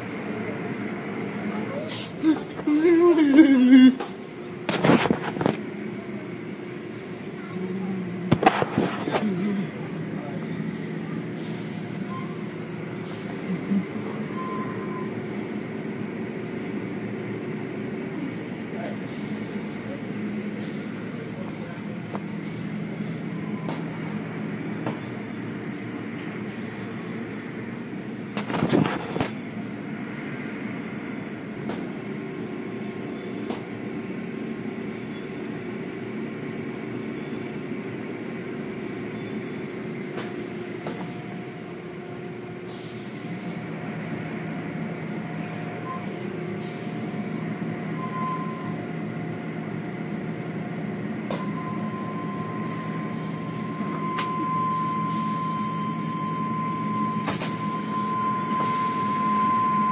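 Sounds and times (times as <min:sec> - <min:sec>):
car wash mechanical hum: 0:00.0 - 0:59.9
thin steady whine: 0:00.0 - 0:59.9.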